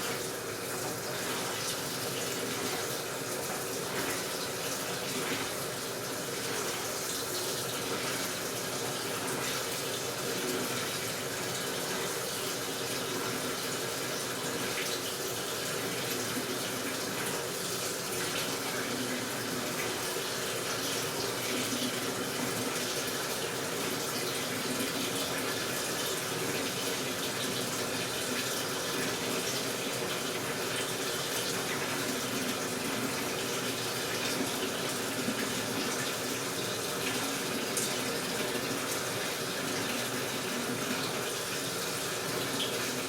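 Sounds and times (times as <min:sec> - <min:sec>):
washing machine filling with water: 0:00.0 - 0:43.0.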